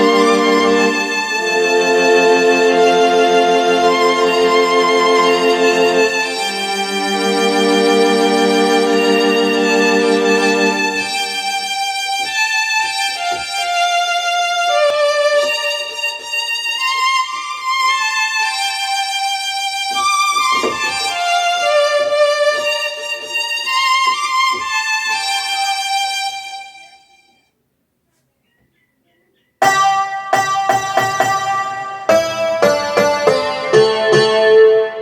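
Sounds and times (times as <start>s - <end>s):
keyboard violin tone melody: 0.0s - 27.3s, 29.6s - 35.0s.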